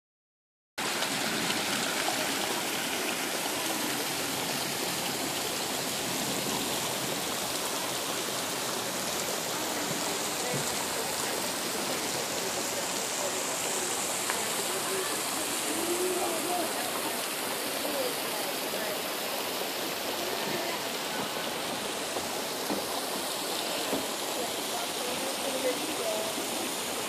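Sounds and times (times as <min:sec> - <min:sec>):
creek water rushing over boulders: 0:00.8 - 0:27.0.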